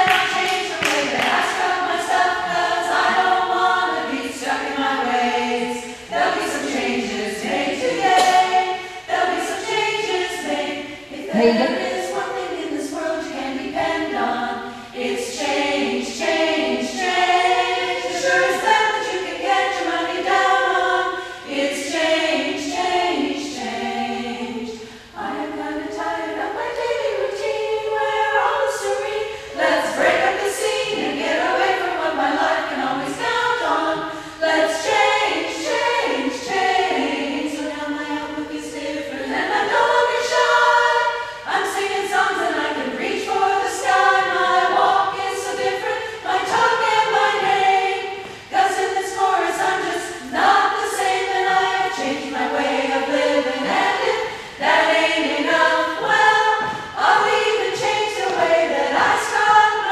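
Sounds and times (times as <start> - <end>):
women's chorus singing: 0.0 - 59.9.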